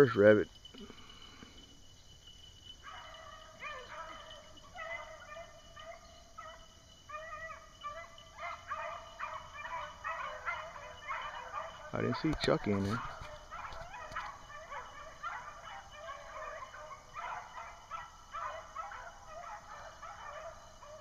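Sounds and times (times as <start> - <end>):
distant dogs baying: 0.0 - 21.0.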